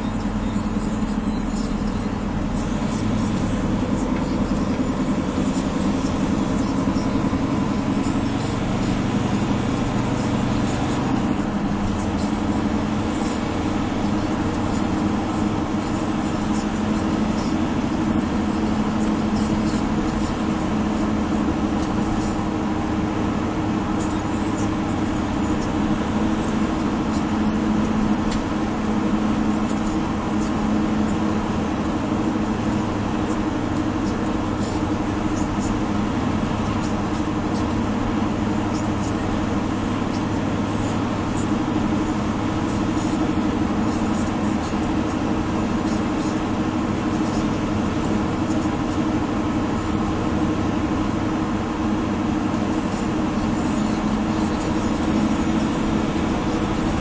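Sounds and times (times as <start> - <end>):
car engine drone: 0.0 - 57.0
tyre and road noise: 0.0 - 57.0.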